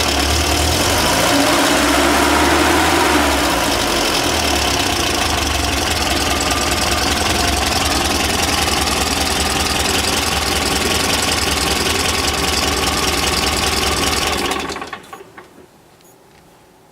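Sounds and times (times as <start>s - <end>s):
engine idling: 0.0s - 15.5s.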